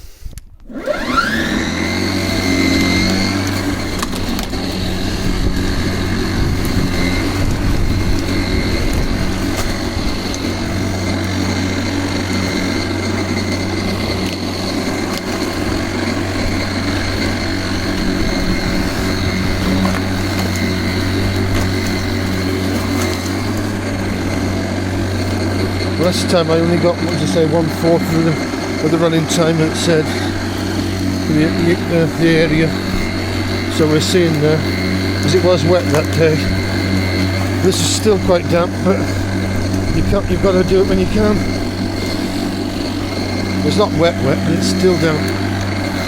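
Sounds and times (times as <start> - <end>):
electric lawnmower whining: 0.0 - 46.0.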